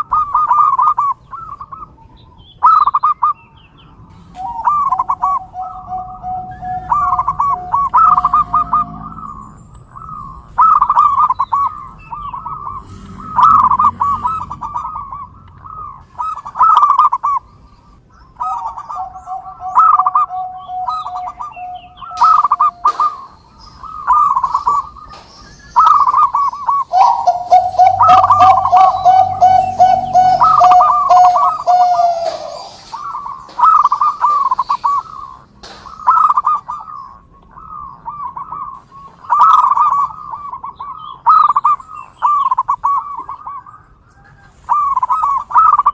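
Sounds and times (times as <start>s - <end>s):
doves cooing: 0.0s - 2.0s, 4.3s - 45.9s.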